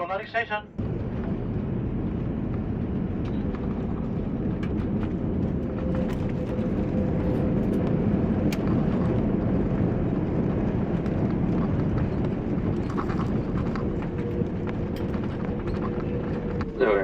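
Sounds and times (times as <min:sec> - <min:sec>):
airliner cabin low rush: 0:00.0 - 0:17.0.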